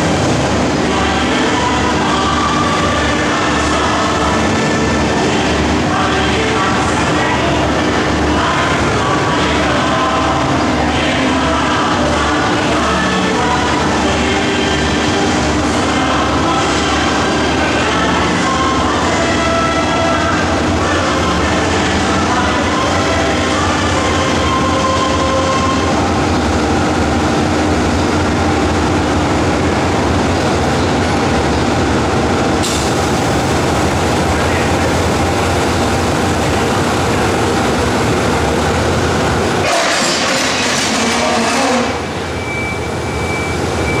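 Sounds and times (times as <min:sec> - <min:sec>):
train coaches rumbling past: 0:00.0 - 0:44.0.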